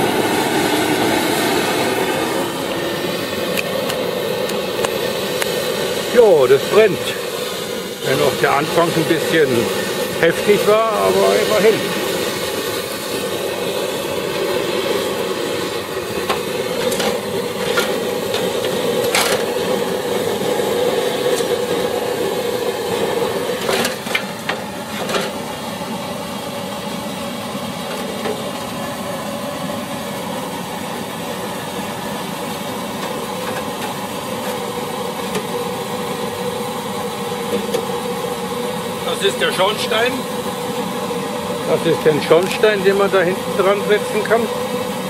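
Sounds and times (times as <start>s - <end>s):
petrol burner rushing: 0.0s - 45.0s.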